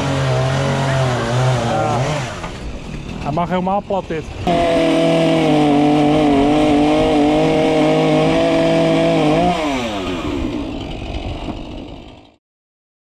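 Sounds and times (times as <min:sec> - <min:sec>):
chainsaw cutting wood: 0:00.0 - 0:02.7, 0:04.5 - 0:12.4.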